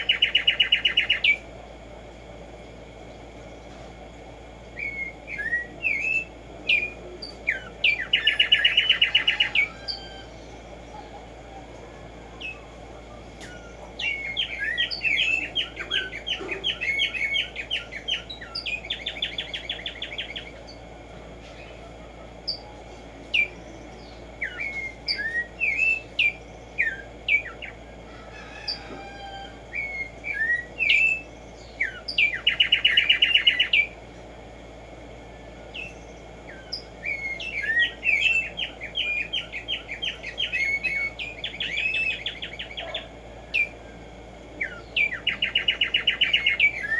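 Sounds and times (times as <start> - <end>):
sparrow singing rattling trills: 0.0 - 1.6, 2.5 - 46.9.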